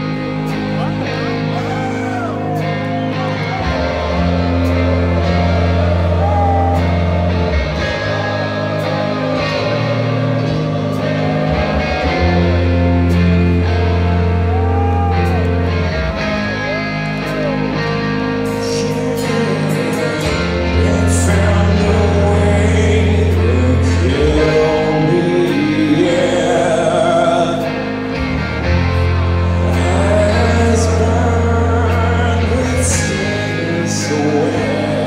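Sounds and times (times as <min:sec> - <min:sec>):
live rock band playing: 0:00.0 - 0:35.0
long held bass notes: 0:00.0 - 0:35.0
slow electric guitar passage: 0:00.0 - 0:35.0.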